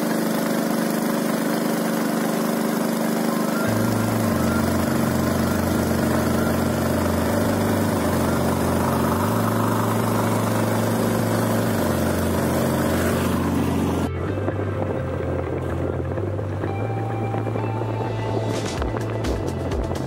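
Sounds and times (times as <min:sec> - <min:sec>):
boat engine running: 0:00.0 - 0:20.0
water rushing along hull: 0:00.0 - 0:20.0.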